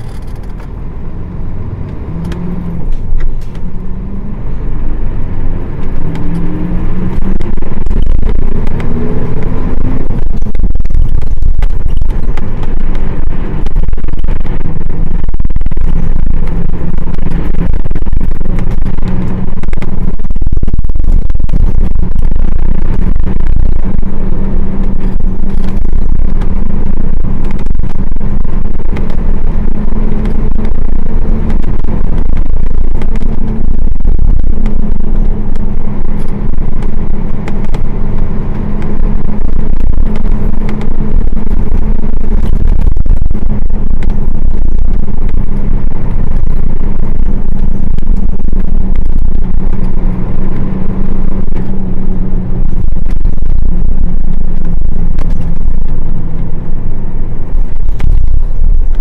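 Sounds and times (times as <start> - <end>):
bus diesel engine droning: 0.0 - 59.0
road rumble: 0.0 - 59.0.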